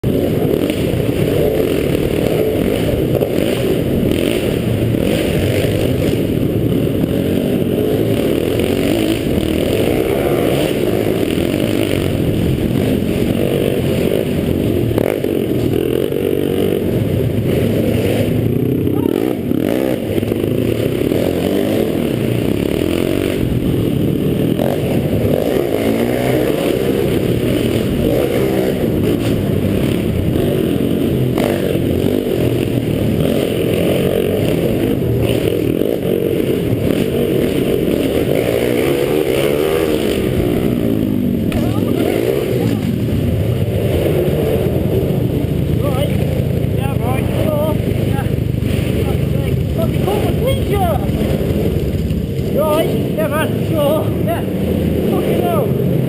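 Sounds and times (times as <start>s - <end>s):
minibike engines running: 0.0s - 56.0s.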